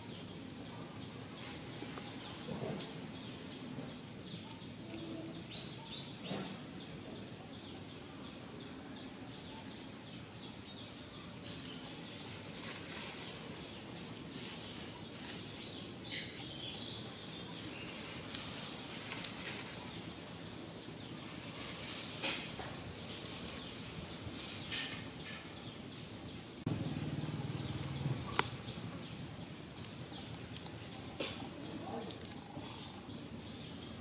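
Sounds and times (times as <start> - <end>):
small birds chirping: 0.0 - 34.0
steady background hiss: 0.0 - 34.0.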